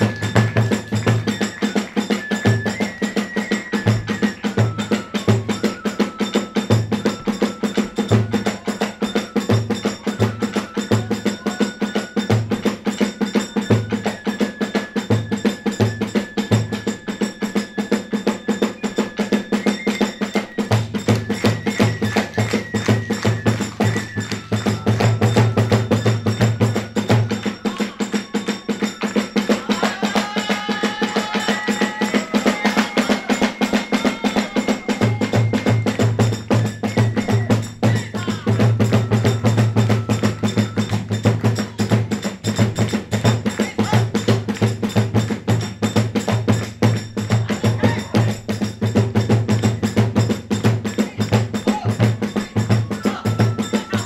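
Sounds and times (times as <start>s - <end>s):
bamboo flute long notes: 0.0s - 42.2s, 51.6s - 54.0s
hand cymbals clattering: 0.0s - 54.0s.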